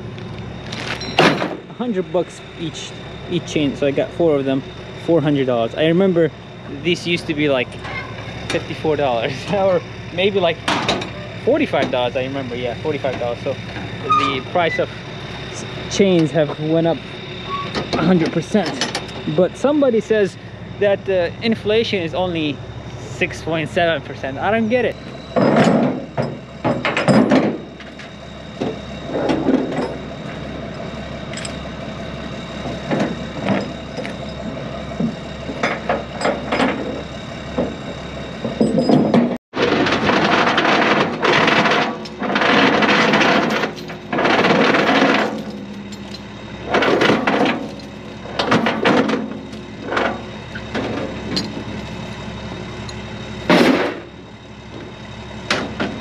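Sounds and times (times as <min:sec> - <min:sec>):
low hum: 0:00.0 - 0:56.0
chains clanking on metal deck: 0:00.6 - 0:04.7, 0:06.8 - 0:22.5, 0:23.5 - 0:54.2.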